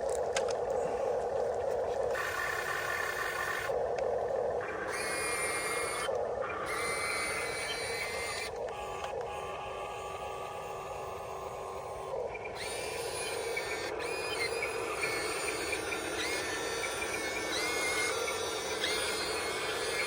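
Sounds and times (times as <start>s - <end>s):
small electric motors grinding hum: 0.0s - 20.0s
high motor whine changing pitch: 2.1s - 3.8s, 4.6s - 20.0s.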